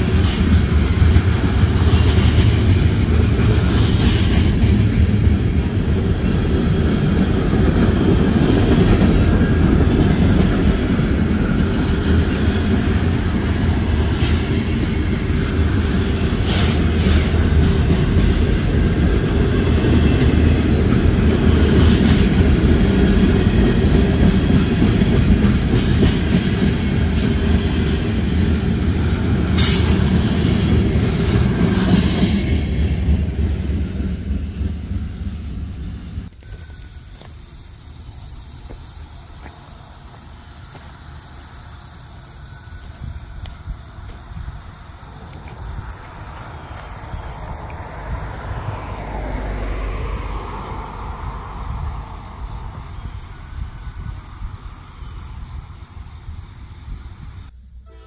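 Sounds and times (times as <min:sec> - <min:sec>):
train locomotive approaching: 0:00.0 - 0:58.0
train wheels rumbling on rail: 0:00.0 - 0:58.0.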